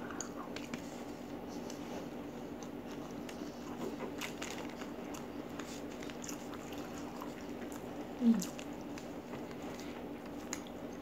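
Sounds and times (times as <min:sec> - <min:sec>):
person chewing food: 0:00.1 - 0:10.9.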